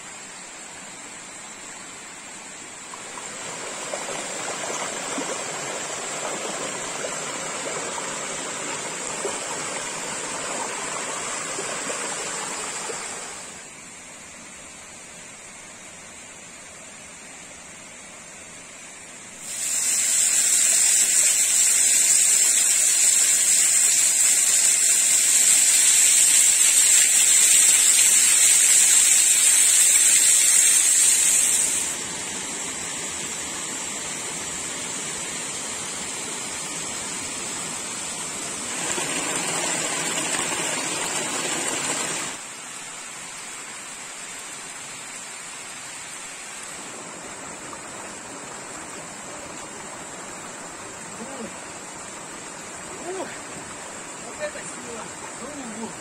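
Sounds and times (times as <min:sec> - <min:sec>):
mountain stream and waterfall: 0:00.0 - 0:56.0.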